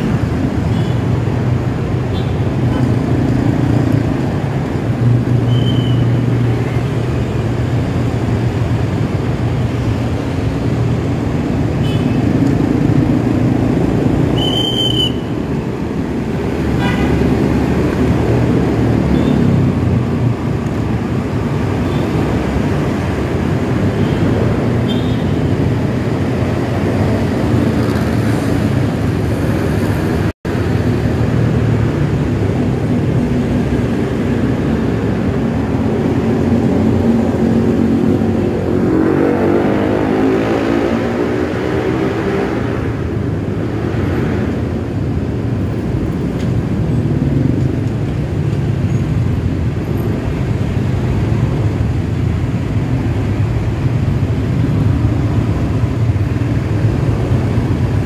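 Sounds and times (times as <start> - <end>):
vehicle engine and road noise: 0.0 - 58.0.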